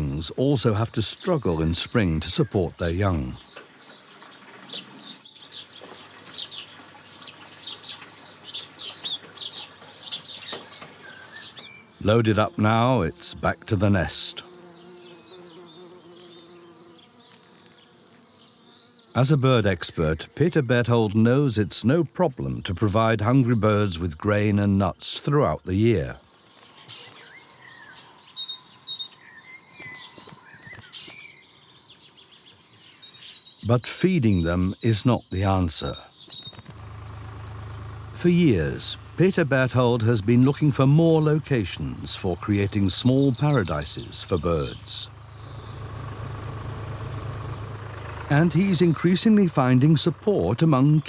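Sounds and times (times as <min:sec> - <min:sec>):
starlings chirping: 0:00.0 - 0:51.0.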